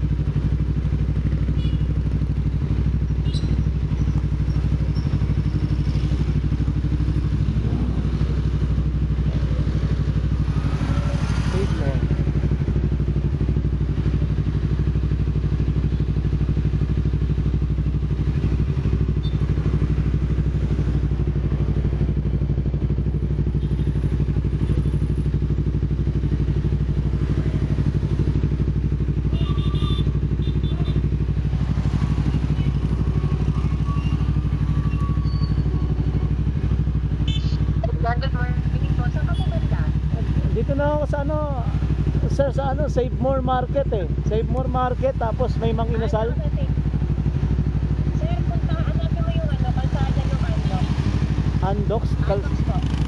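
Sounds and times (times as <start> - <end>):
motorcycle engine running steadily: 0.0 - 53.0.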